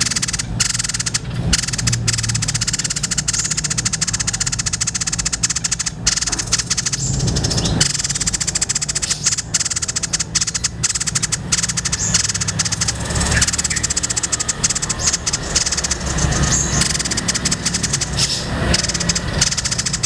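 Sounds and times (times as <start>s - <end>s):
bird rattling chatter: 0.0s - 20.0s
steady low hum: 0.0s - 20.0s.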